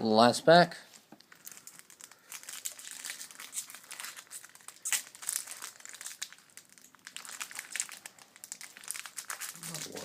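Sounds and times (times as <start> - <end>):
foil wrapper crinkling: 1.2 - 10.0.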